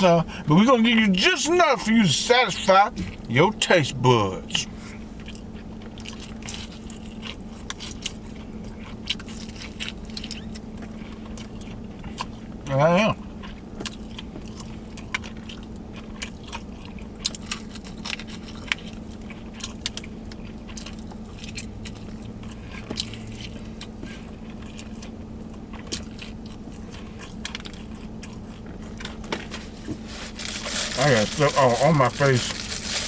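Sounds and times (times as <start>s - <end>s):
person chewing food: 2.9s - 3.3s, 4.9s - 12.6s, 13.2s - 33.0s.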